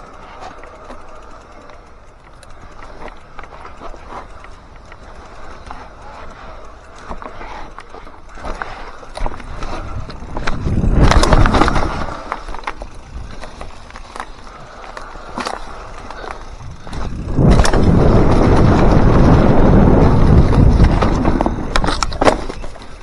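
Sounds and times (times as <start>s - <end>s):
bike rattling and clicking: 0.0s - 23.0s
bike tyres rumbling on dirt: 0.0s - 23.0s.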